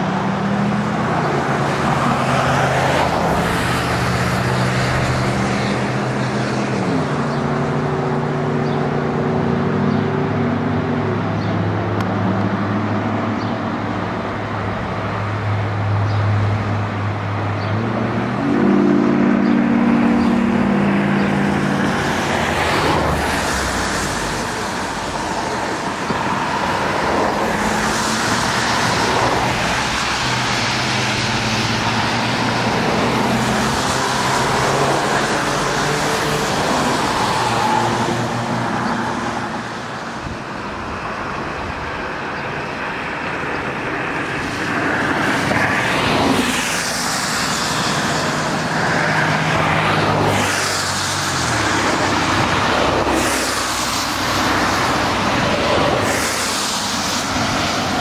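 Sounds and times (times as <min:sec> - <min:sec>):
traffic on wet road: 0:00.0 - 0:58.0
vehicles passing close by: 0:00.0 - 0:58.0.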